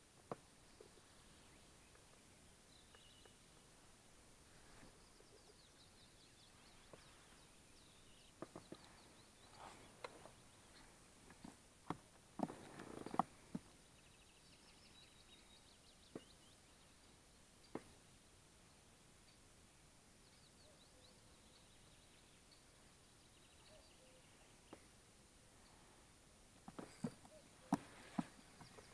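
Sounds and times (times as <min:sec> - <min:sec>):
songbird chirps and trills: 0:00.0 - 0:28.9.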